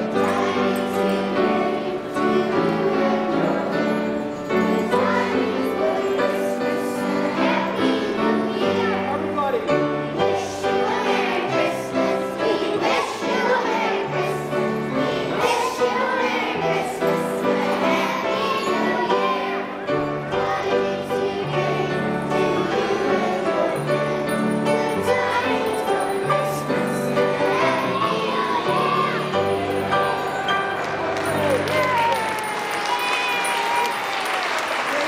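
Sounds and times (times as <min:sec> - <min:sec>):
children singing a carol: 0:00.0 - 0:30.7.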